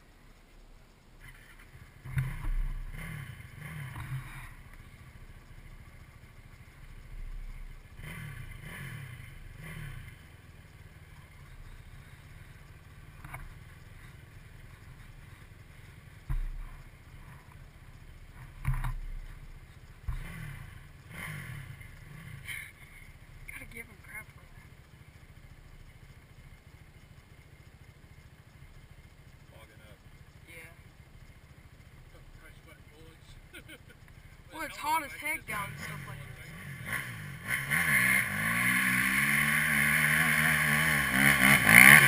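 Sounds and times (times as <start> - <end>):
quad engine idling: 0.0 - 42.0.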